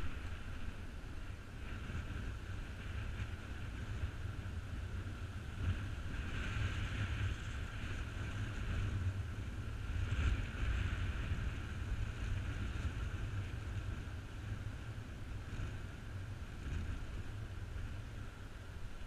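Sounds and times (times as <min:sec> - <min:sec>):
wind buffeting microphone: 0:00.0 - 0:19.0
wind through tree leaves: 0:00.0 - 0:19.0.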